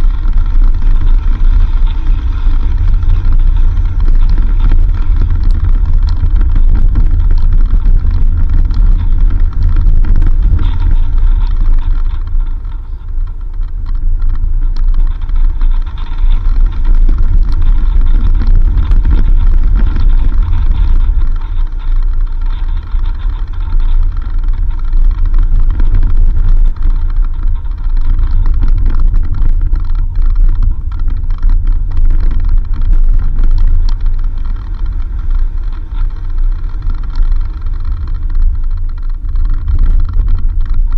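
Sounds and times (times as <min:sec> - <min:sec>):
small knocks and rattles: 0:00.0 - 0:40.9
vehicle rumbling on dirt road: 0:00.0 - 0:40.9.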